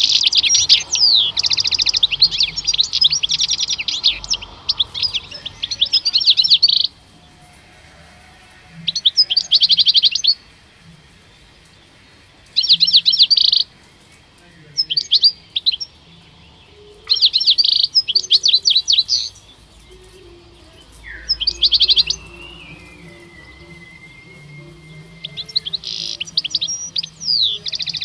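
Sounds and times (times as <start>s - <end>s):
goldfinch twittering song: 0.0s - 7.4s, 8.8s - 28.0s.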